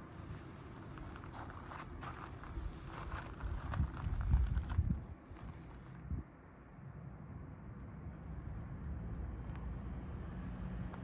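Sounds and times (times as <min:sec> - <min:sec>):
small wood fire crackling: 0:00.1 - 0:11.0.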